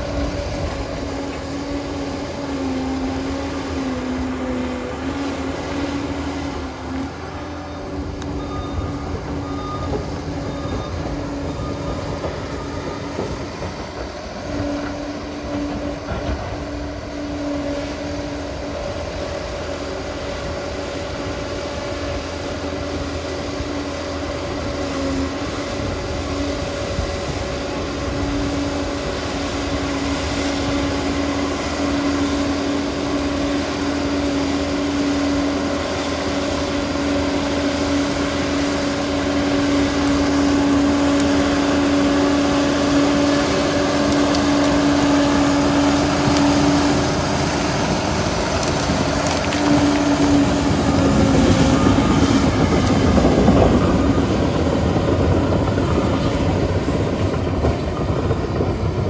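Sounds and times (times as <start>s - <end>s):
dozer diesel engine rumbling: 0.0s - 59.0s
engine whine: 0.0s - 59.0s.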